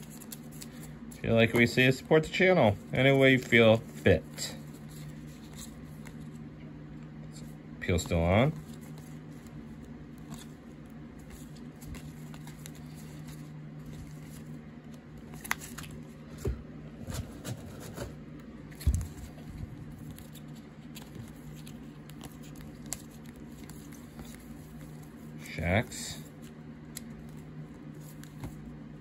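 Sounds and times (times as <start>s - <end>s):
cards rustling and clicking: 0.0s - 6.5s, 7.4s - 29.0s.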